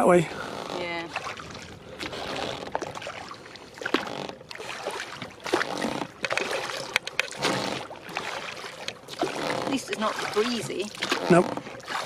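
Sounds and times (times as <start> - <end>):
light knocks from oars: 0.0 - 12.0
oars splashing in water: 0.0 - 12.0.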